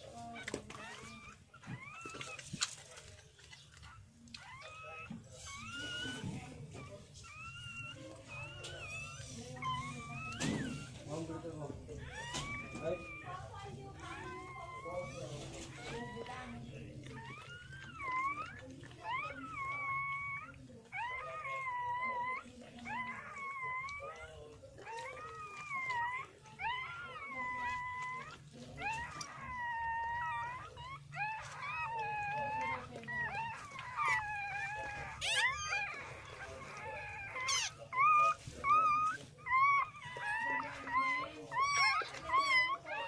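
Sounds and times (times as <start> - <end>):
dog whining: 0.0 - 43.0.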